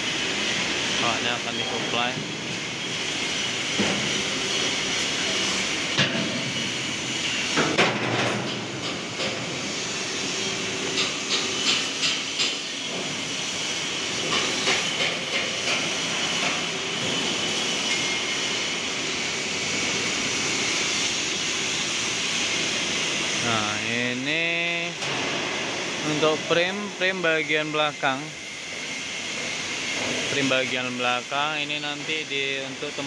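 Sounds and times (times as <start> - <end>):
steady workshop hiss: 0.0 - 33.0.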